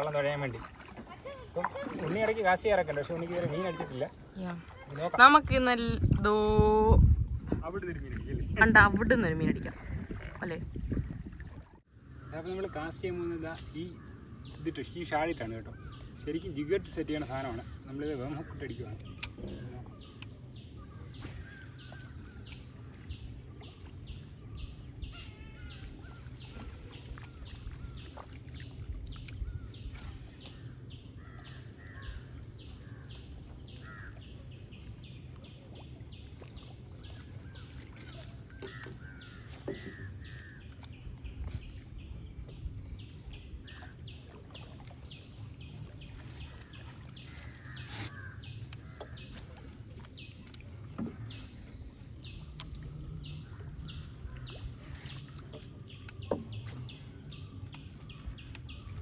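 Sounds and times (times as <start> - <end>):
birds calling: 0.0 - 6.6, 8.6 - 59.0.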